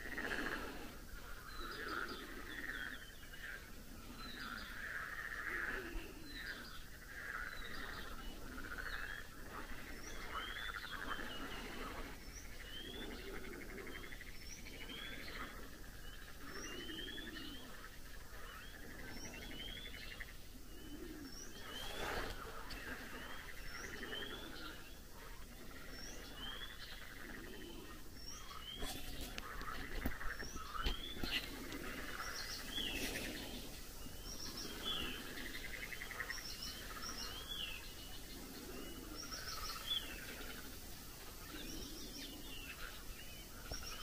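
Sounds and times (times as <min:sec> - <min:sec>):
frogs croaking: 0:00.0 - 0:44.0.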